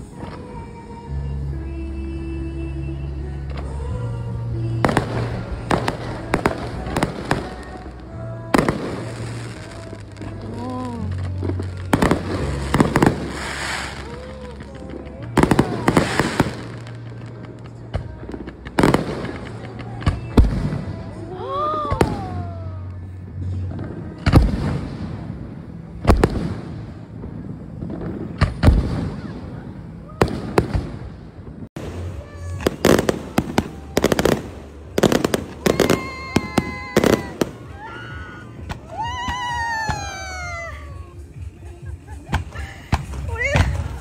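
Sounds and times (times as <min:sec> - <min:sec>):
fireworks crackling: 0:00.0 - 0:44.0.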